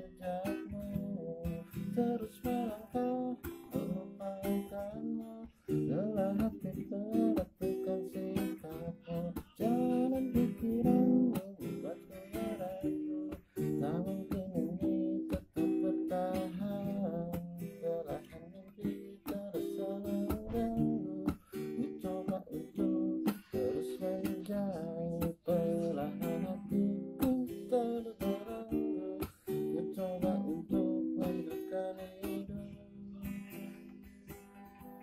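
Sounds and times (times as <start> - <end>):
man singing: 0.0 - 33.7
acoustic guitar strumming: 0.0 - 35.0.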